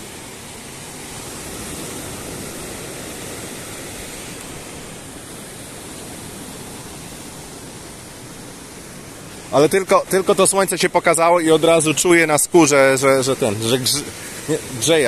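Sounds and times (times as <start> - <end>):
gentle surf washing on shore: 0.0 - 15.0.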